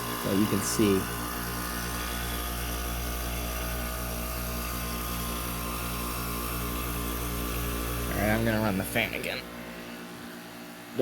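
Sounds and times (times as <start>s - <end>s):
air conditioner compressor humming: 0.0s - 11.0s.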